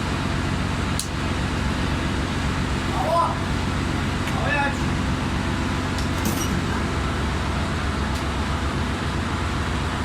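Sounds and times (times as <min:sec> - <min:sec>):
engine-room machinery drone: 0:00.0 - 0:10.0.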